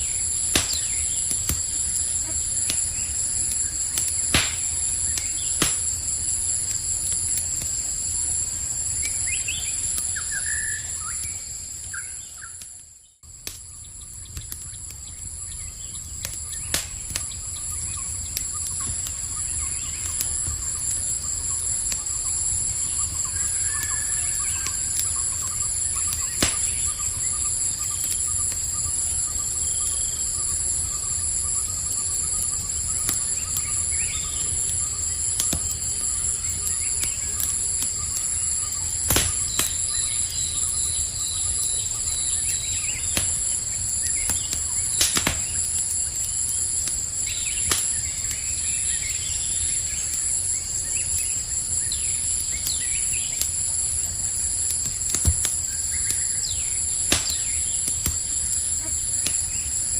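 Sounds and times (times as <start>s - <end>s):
campfire crackling and popping: 0.0s - 59.9s
night insects chirring: 0.0s - 59.9s.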